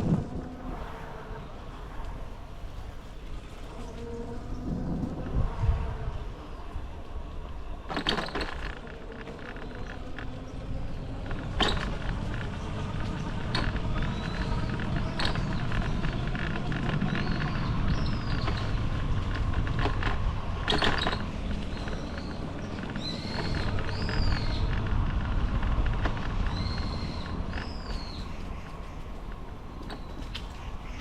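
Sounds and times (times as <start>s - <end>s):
bicycle riding rumble: 0.0s - 31.0s.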